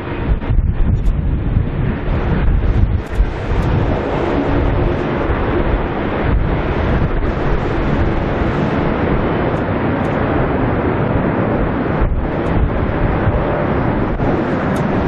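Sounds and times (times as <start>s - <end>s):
jet airliner engines landing: 0.0s - 15.0s
wind on microphone: 0.0s - 15.0s.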